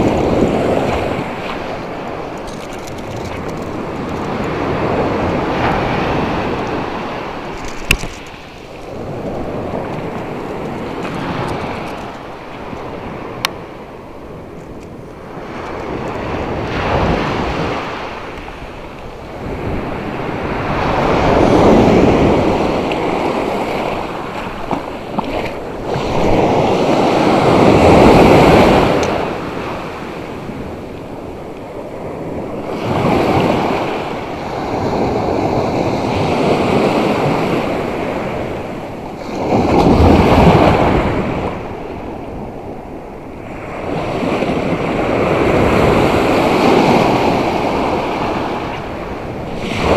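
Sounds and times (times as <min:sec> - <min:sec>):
surf breaking on shore: 0:00.0 - 0:49.9.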